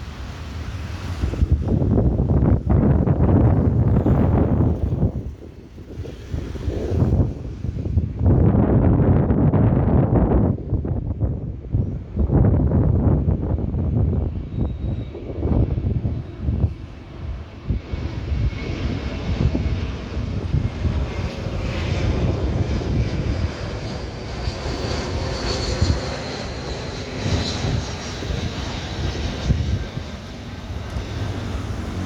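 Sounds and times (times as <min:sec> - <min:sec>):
jet engines flying past: 0:00.0 - 0:32.0.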